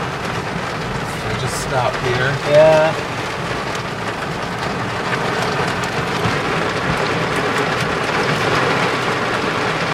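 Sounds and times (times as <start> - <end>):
car engine running low: 0.0 - 9.9
heavy rain on a car roof: 0.0 - 9.9.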